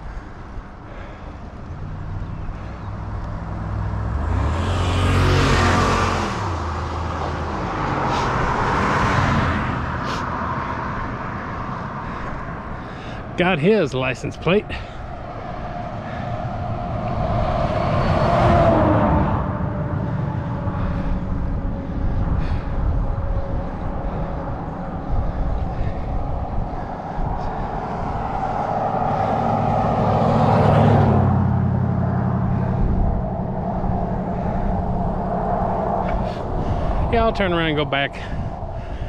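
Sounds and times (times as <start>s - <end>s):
low wind rumble on microphone: 0.0s - 39.0s
vehicles passing on road: 0.0s - 39.0s.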